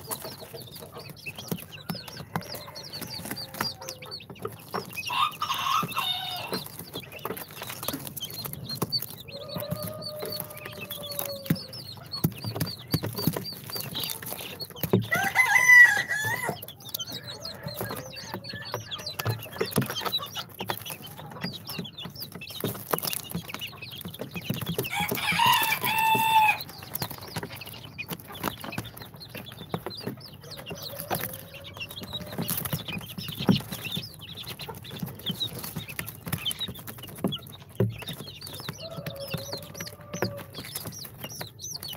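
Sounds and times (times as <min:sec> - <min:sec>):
baby chicks peeping: 0:00.0 - 0:41.9.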